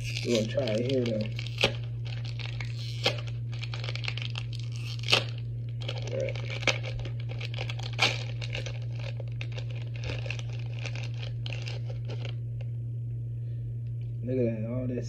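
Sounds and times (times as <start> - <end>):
wrapper tearing: 0.0 - 12.4
plastic wrapper crinkling: 0.0 - 12.7
low hum: 0.0 - 15.0.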